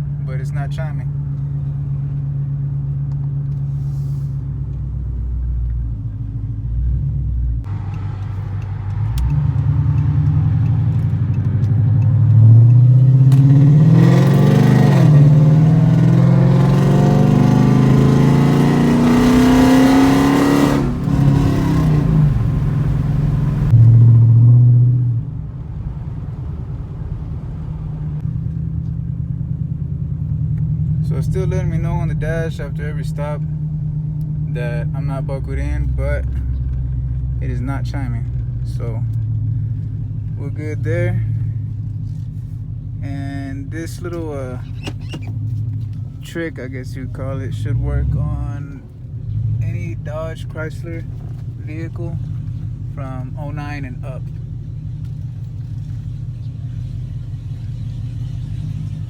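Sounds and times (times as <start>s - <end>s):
car engine idling and accelerating: 0.0s - 59.0s.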